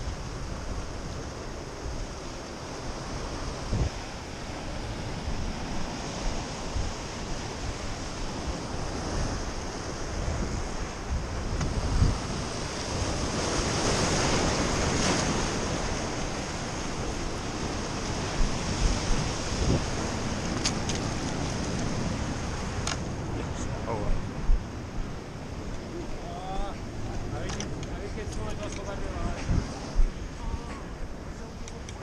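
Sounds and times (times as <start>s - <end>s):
sea surf breaking over rocks: 0.0s - 32.0s
wind buffeting microphone: 0.0s - 32.0s.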